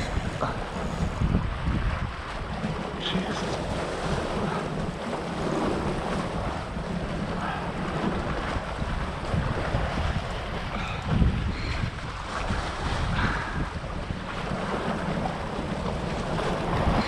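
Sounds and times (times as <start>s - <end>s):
small waves washing: 0.0s - 17.0s
wind buffeting microphone: 0.0s - 17.0s.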